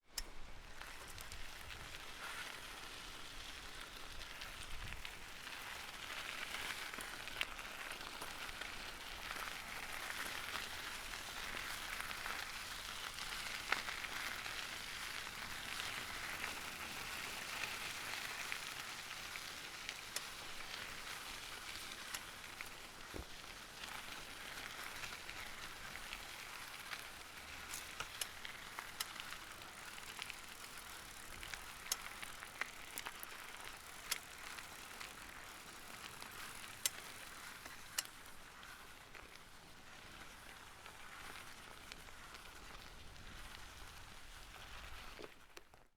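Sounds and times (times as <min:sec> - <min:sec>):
bicycle tyres on gravel: 0:00.1 - 0:45.9.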